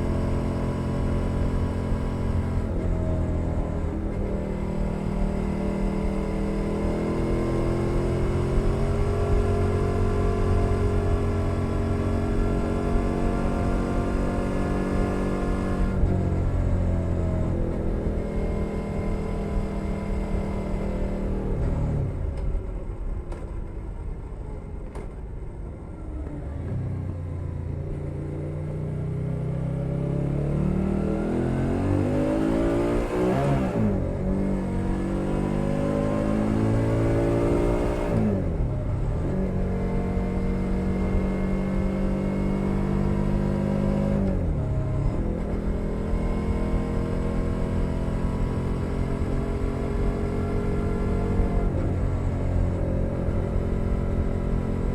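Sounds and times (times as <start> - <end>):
motorcycle engine revving: 0.0 - 22.4, 26.5 - 54.9.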